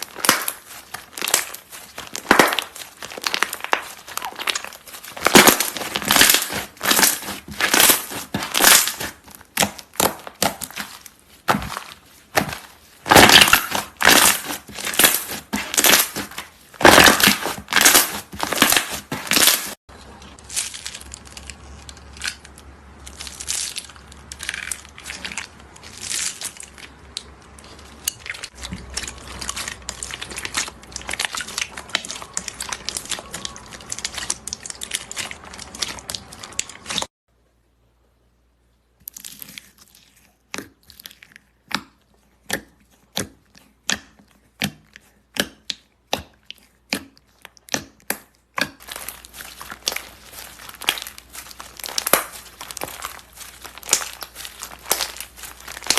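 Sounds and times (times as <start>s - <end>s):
slime crunching and crackling: 0.0s - 37.1s, 38.8s - 55.9s.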